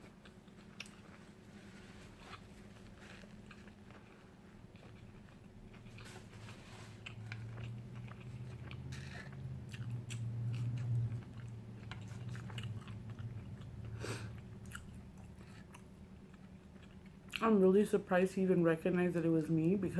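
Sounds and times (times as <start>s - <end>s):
chewing and crunchy biting: 0.0s - 17.4s
low steady hum: 0.0s - 19.9s.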